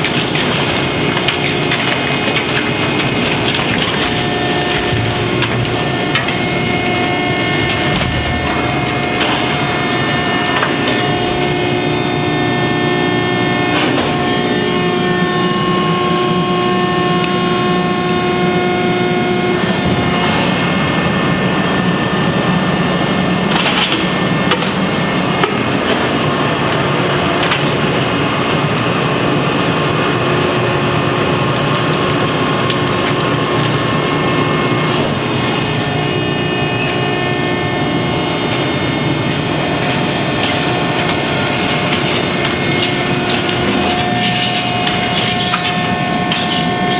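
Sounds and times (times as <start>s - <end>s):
baler machine hum: 0.0s - 46.9s.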